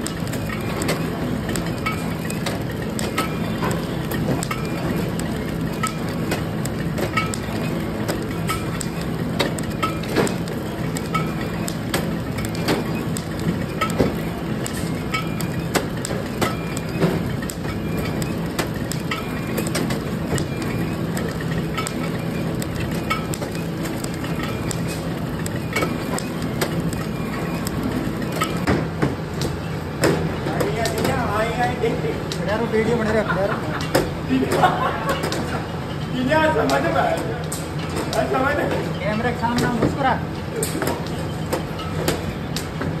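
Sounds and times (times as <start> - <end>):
conveyor clacks: 0.0 - 43.0
machine humming: 0.0 - 43.0.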